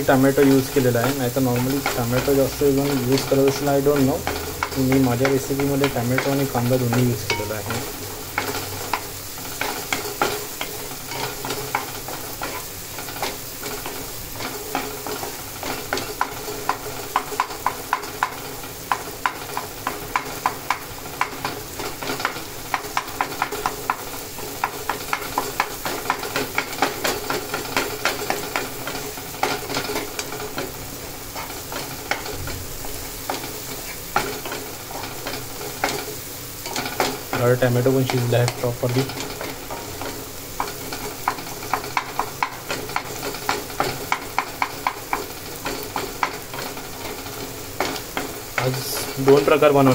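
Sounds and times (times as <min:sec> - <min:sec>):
vegetables sizzling in a frying pan: 0:00.0 - 0:49.9
spatula scraping a pan: 0:00.4 - 0:49.9.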